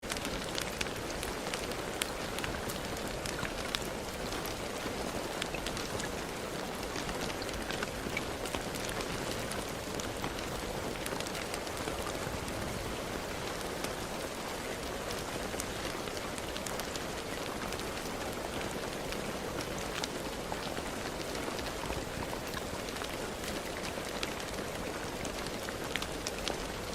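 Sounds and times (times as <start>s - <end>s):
rain hissing: 0.0s - 26.9s
raindrops hitting: 0.0s - 26.9s.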